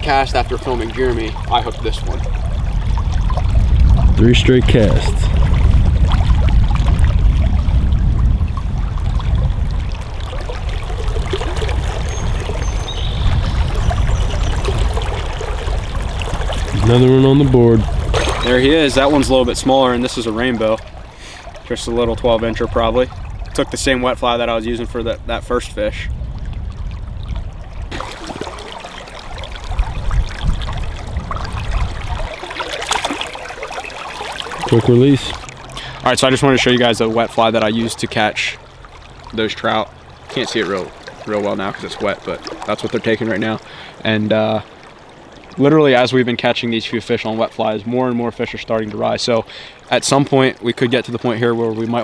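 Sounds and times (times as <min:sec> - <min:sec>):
small splashes: 0:00.0 - 0:23.9, 0:26.4 - 0:52.0
creek water running and trickling: 0:00.0 - 0:52.0
stream flowing: 0:00.0 - 0:52.0.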